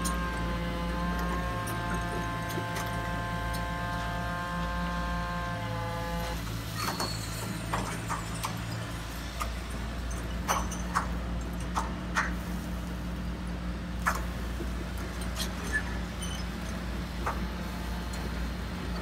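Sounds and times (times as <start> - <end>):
model excavator pump hum: 0.0 - 19.0.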